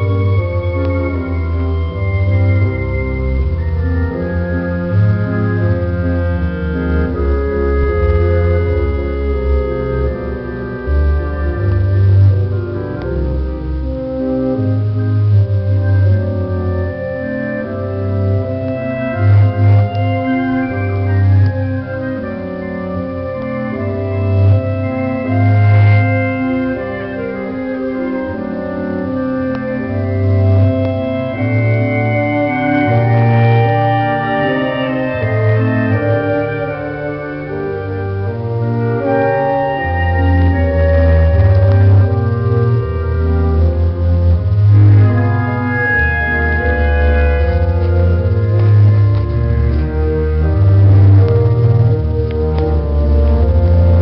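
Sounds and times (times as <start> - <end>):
slow held chords: 0.0 - 54.0
steady bass line: 0.0 - 54.0.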